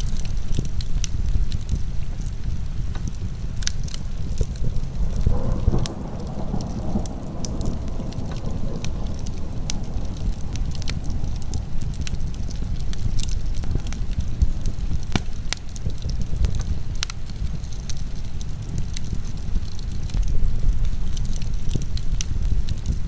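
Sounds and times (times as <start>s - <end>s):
heavy rain rumble: 0.0s - 23.0s
wood fire crackling and popping: 0.0s - 23.0s.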